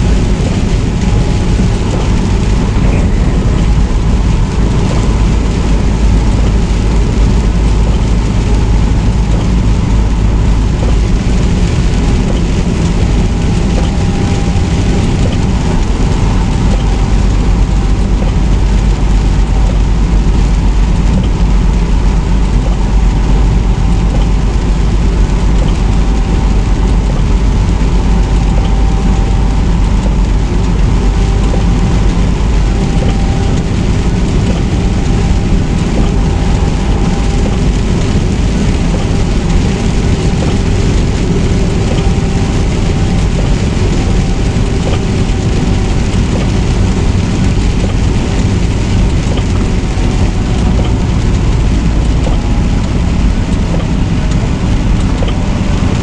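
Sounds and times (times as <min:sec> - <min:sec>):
rain and wet tyres hiss: 0:00.0 - 0:56.0
truck engine and road rumble: 0:00.0 - 0:56.0.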